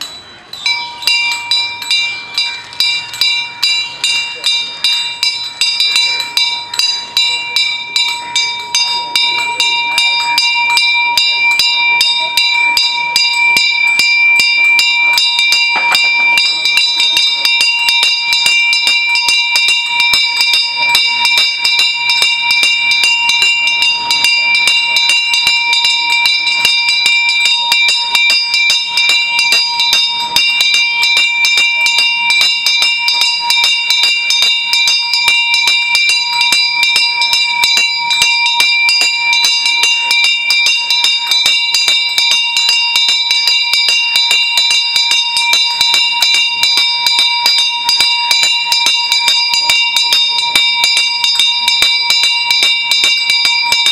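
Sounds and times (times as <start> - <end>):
hand bell rung rapidly: 0.0 - 53.9.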